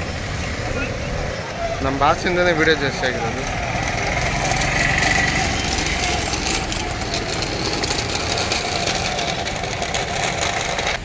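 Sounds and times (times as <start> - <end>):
small engine close by: 0.0 - 11.0
traffic engines running: 0.0 - 11.0.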